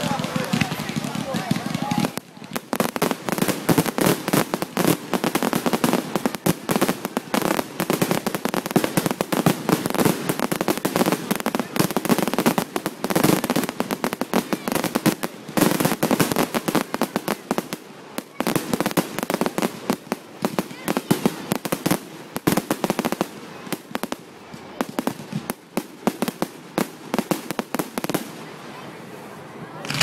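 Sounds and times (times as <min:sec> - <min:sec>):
fireworks bangs and crackles: 0:00.0 - 0:28.9, 0:29.8 - 0:30.0.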